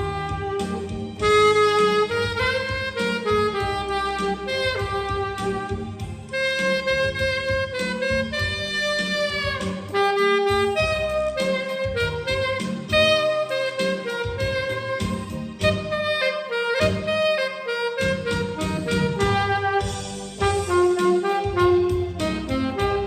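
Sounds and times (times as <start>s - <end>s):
low accompaniment: 0.0s - 23.0s
saxophone slow melody: 0.0s - 23.0s.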